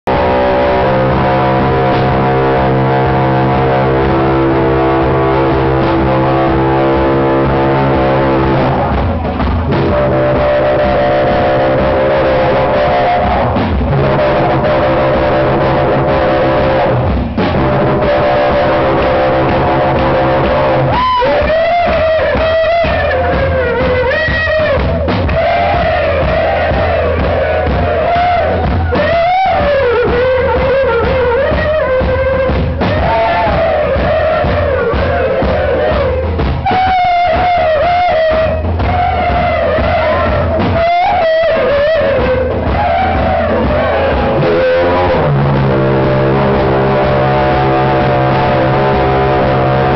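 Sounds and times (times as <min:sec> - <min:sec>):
bending lead melody: 0:00.0 - 0:49.9
live rock band playing: 0:00.1 - 0:49.9.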